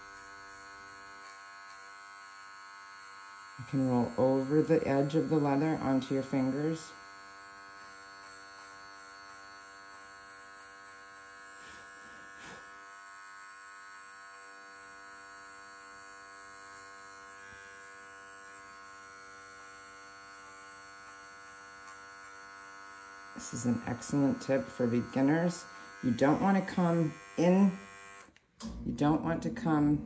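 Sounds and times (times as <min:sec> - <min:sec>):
hair clipper buzzing: 0:00.0 - 0:29.8.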